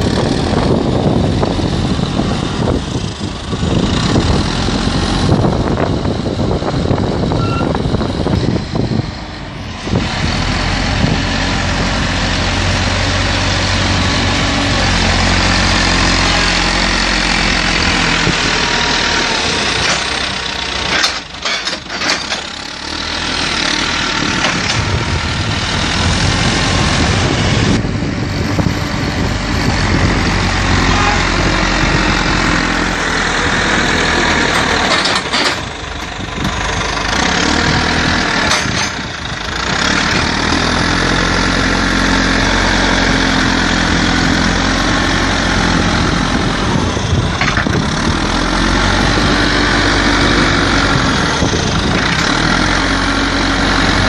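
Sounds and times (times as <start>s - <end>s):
diesel engine running hard: 0.0s - 54.0s.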